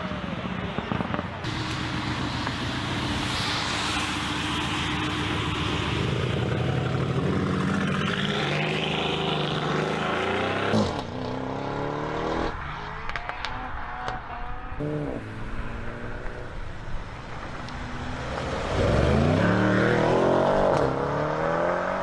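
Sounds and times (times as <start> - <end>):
car engine under hard throttle: 0.0 - 22.0
engine revving in quick sweeps: 1.4 - 22.0.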